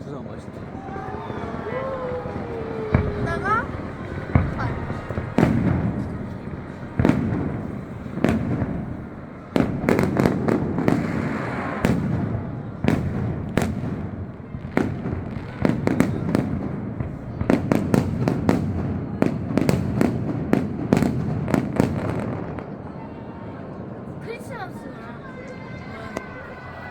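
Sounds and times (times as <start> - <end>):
fireworks rumble and crackle: 0.0 - 26.9.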